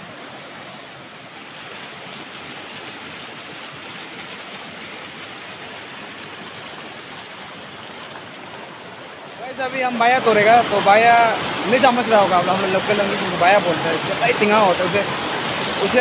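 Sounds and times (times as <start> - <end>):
river rushing over boulders: 0.0 - 16.0.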